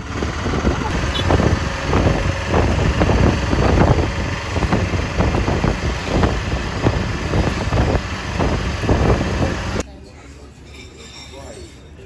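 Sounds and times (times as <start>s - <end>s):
auto rickshaw engine drone: 0.0s - 9.8s.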